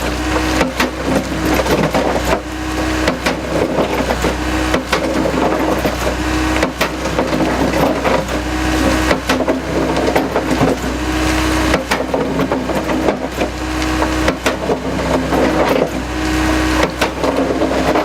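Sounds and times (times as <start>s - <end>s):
crusher jaw crunching concrete: 0.0s - 18.0s
excavator engine humming: 0.0s - 18.0s.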